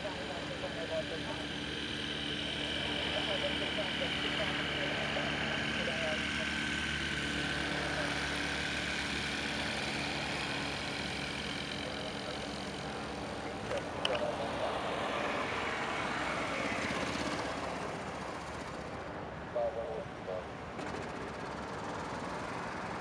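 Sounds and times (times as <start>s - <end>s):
distant jet engines roaring: 0.0s - 23.0s.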